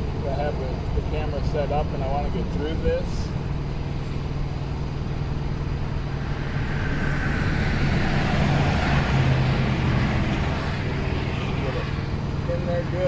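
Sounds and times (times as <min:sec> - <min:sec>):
low engine hum: 0:00.0 - 0:13.0
road traffic noise: 0:00.0 - 0:13.0.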